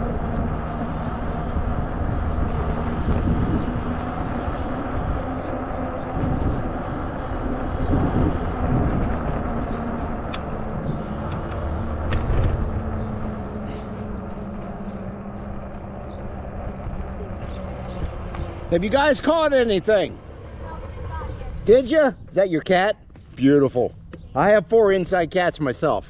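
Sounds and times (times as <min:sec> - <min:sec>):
wind buffeting microphone: 0:00.0 - 0:25.4.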